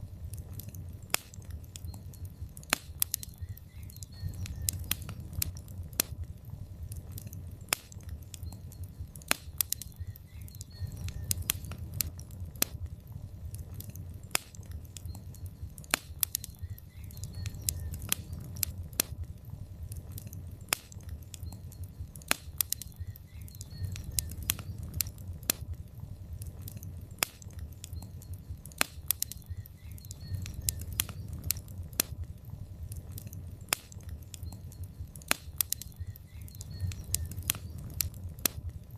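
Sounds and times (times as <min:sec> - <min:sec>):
log fire crackling and popping: 0:00.0 - 0:38.9.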